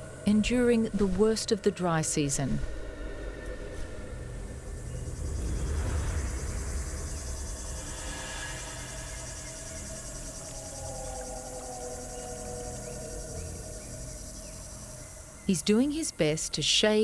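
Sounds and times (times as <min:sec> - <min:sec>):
low rumble: 0:00.0 - 0:16.2
insect chorus trilling: 0:00.0 - 0:17.0.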